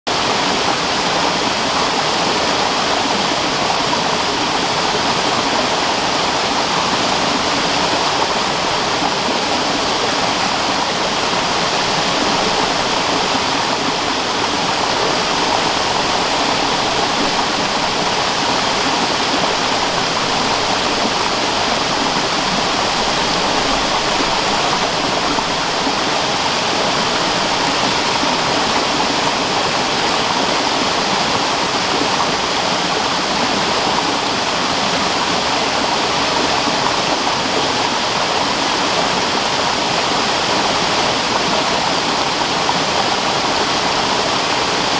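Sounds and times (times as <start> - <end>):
running water rushing: 0.1 - 44.9.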